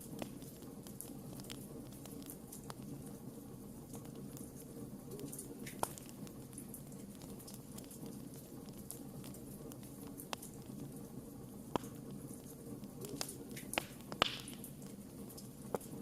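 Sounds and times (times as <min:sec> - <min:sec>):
logs popping: 0:00.0 - 0:03.2, 0:03.9 - 0:16.0
fire burning with crackles: 0:00.0 - 0:16.0.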